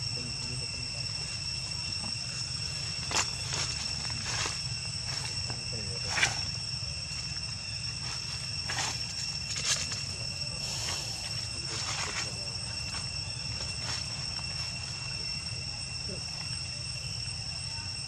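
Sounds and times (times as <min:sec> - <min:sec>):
insect chorus drone: 0:00.0 - 0:18.0.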